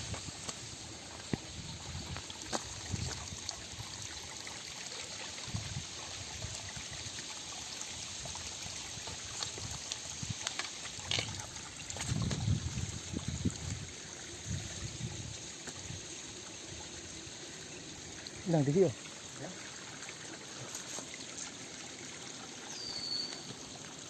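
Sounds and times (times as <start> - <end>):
river water flowing over rocks: 0.0 - 24.0.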